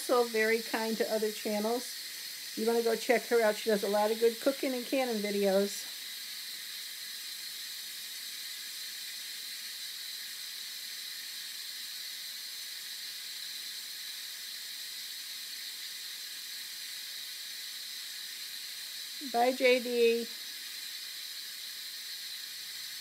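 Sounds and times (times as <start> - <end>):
pressure cooker steam hiss: 0.0 - 23.0.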